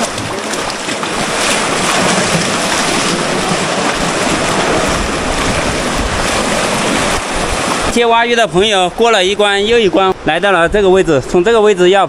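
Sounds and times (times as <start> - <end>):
river water rushing: 0.0 - 10.6
wind buffeting microphone: 0.0 - 12.0.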